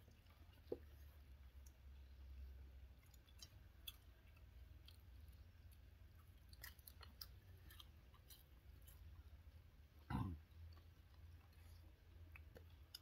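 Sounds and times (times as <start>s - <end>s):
low steady hum: 0.0s - 13.0s
soft chewing: 0.0s - 13.0s.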